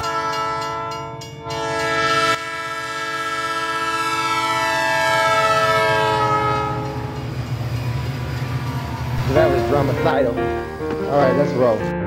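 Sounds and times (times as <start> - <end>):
train horn chord: 0.0 - 7.3, 9.2 - 12.0
rumble of train cars: 0.0 - 12.0.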